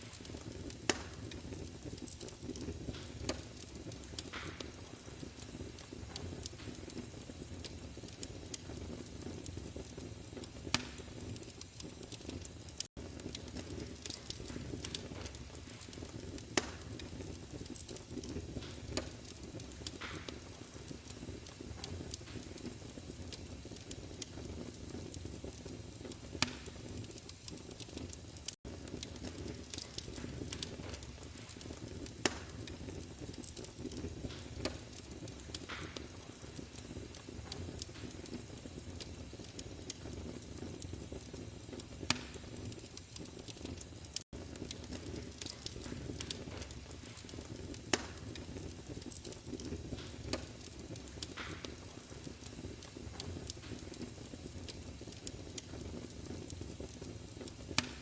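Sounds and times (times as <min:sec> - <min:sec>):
sharp pops of fire: 0:00.0 - 0:58.0
wood fire crackling: 0:00.0 - 0:58.0.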